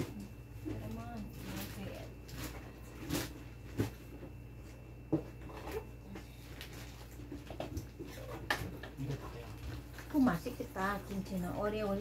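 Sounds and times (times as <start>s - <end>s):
low steady hum: 0.0s - 12.0s
soft plastic rustling: 0.6s - 4.8s, 5.4s - 11.4s.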